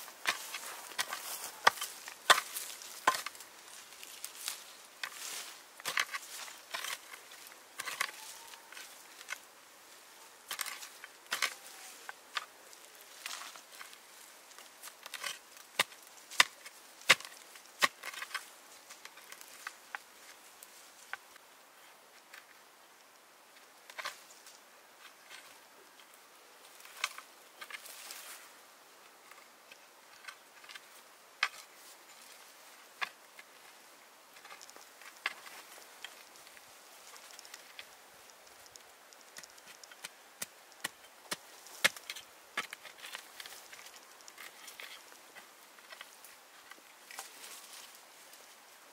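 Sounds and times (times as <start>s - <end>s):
rustling: 0.0s - 22.6s, 23.5s - 48.9s.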